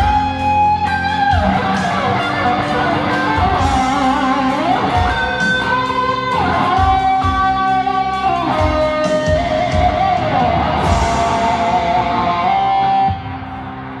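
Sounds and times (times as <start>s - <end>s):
electric guitar lead solo: 0.0s - 14.0s
rock backing with bass and drums: 0.0s - 14.0s.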